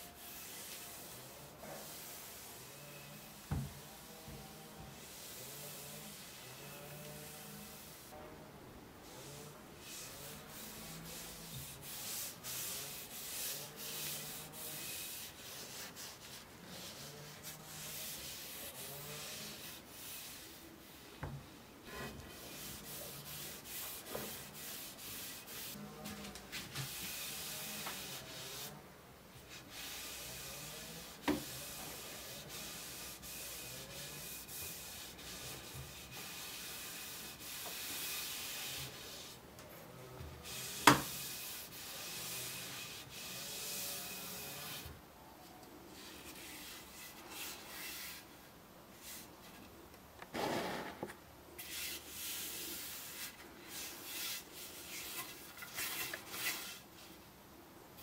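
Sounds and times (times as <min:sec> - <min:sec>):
sandpaper rubbing back and forth: 0:00.0 - 0:08.2, 0:09.2 - 0:21.0, 0:21.9 - 0:28.8, 0:29.5 - 0:39.4, 0:40.4 - 0:44.9, 0:46.0 - 0:48.3, 0:51.6 - 0:56.9.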